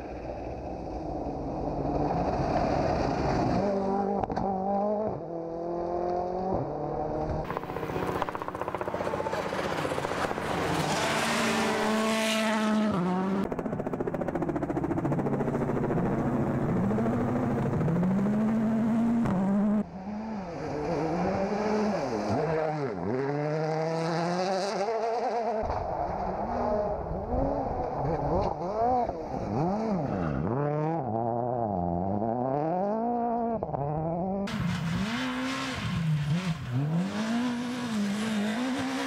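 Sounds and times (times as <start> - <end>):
rally car engines at full throttle: 0.0 - 39.0.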